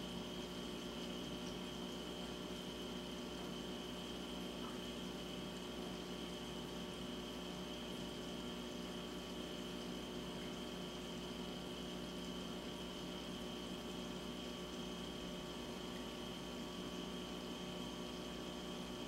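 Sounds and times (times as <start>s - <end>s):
aquarium pumps humming: 0.0s - 19.0s
water circulating hiss: 0.0s - 19.0s.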